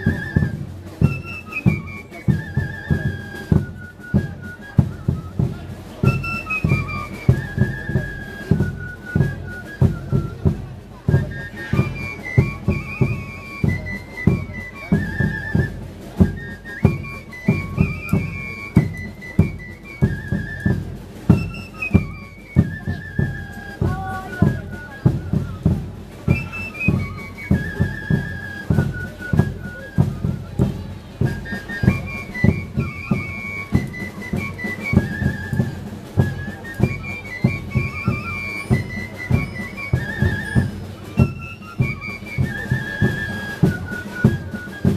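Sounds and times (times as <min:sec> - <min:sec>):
drums beating steady rhythm: 0:00.0 - 0:44.9
high flute melody: 0:00.0 - 0:44.9.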